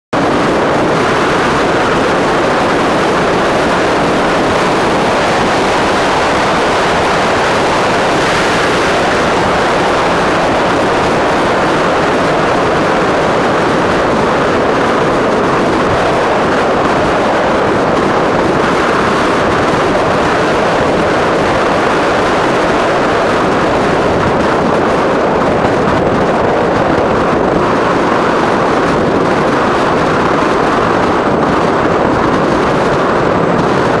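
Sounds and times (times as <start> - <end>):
wind and road noise: 0.1 - 34.0.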